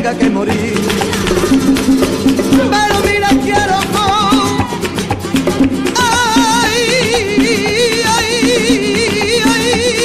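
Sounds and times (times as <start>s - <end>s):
flamenco rumba song with vibrato vocal: 0.0s - 10.0s.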